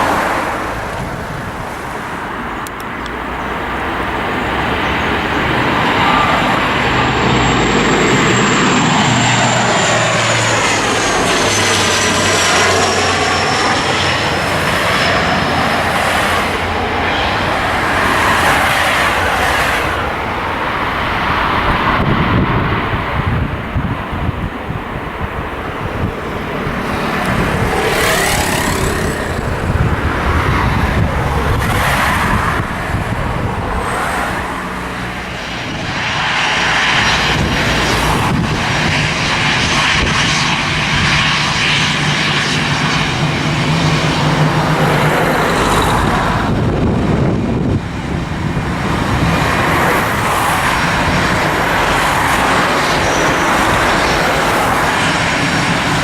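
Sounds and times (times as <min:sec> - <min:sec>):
airliner engines running: 0:00.0 - 0:56.0.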